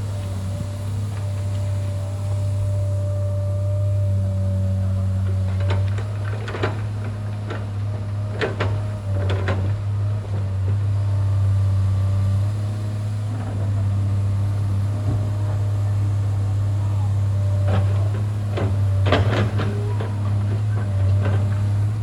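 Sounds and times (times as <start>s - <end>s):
construction machinery engine humming: 0.0s - 22.0s.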